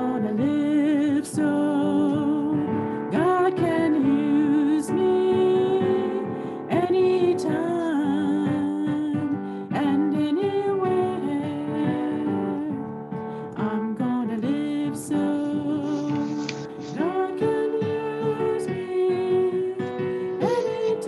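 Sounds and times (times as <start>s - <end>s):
woman singing with vibrato: 0.0s - 12.8s, 13.6s - 21.0s.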